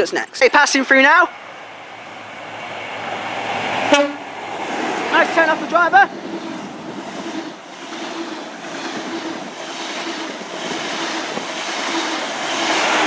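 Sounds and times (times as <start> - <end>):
train wheels and air rushing: 1.3 - 13.0.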